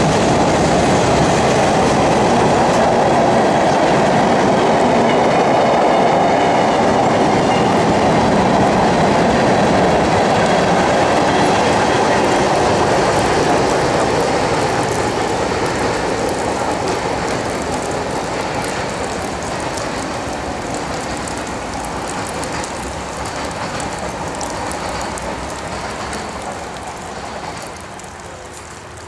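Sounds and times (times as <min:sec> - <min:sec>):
falling rain: 0:00.0 - 0:29.0
freight cars rolling over rails: 0:00.0 - 0:29.0.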